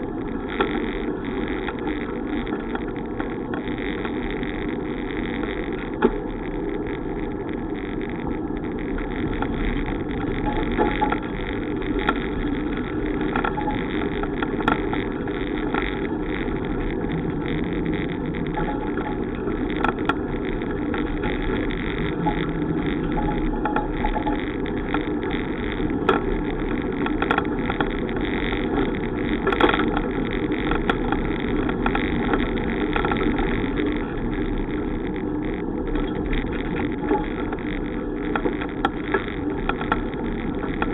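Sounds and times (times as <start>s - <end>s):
bicycle rolling noise: 0.0s - 40.9s
wind: 0.0s - 40.9s.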